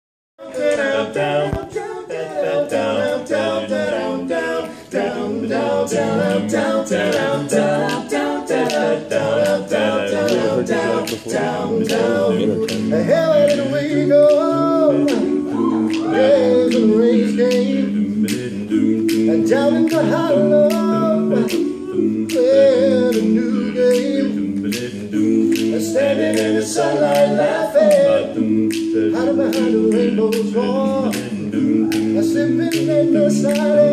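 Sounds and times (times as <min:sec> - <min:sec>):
men singing a cappella harmony: 0:00.4 - 0:33.9
steady clicking beat: 0:00.4 - 0:33.9.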